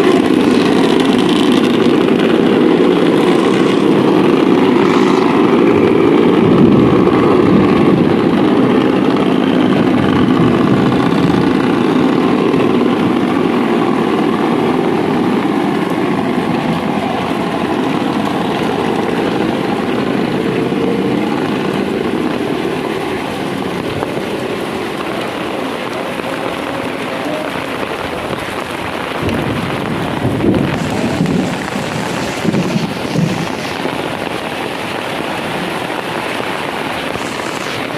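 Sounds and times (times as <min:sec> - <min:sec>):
heavy rain: 0:00.0 - 0:37.9
wind: 0:00.0 - 0:37.9.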